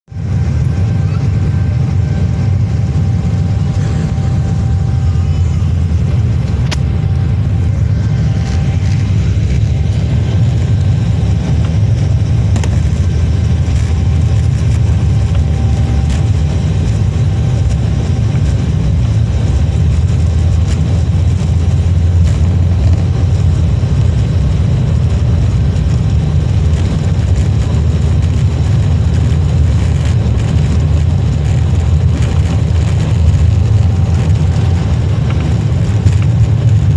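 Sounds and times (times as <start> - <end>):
jet engine rumble: 0.0 - 36.9
faint steady whine: 0.1 - 36.9.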